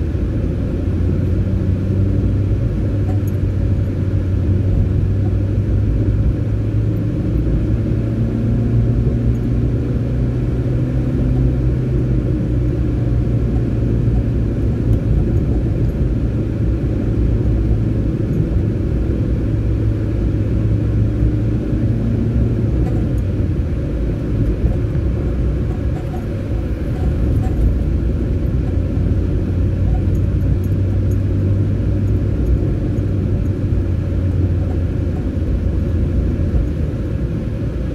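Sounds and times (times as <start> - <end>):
car engine and road noise: 0.0 - 37.9.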